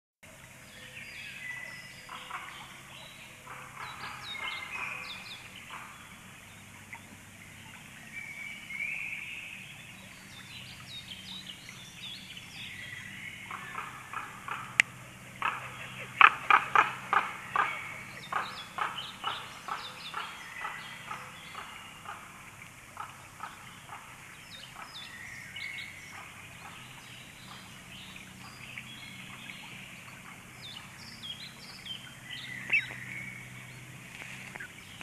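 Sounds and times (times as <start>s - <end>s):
songbirds singing and chirping: 0.4s - 35.0s.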